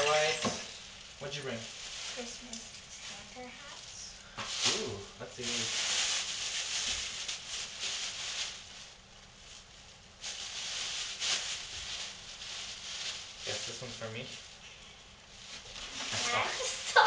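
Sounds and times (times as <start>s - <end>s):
plastic bag rustling: 0.0s - 17.0s.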